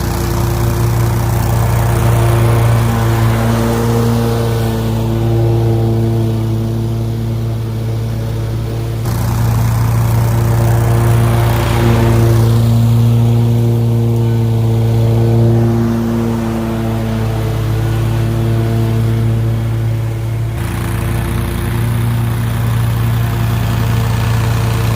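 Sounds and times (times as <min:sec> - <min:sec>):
lawn mower engine running: 0:00.0 - 0:24.9.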